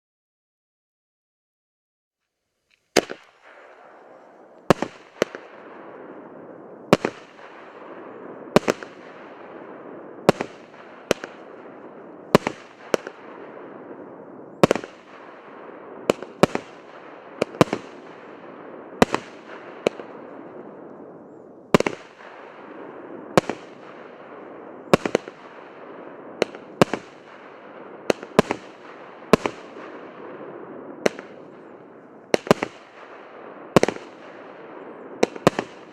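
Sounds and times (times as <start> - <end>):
firework bangs: 2.9 - 35.9.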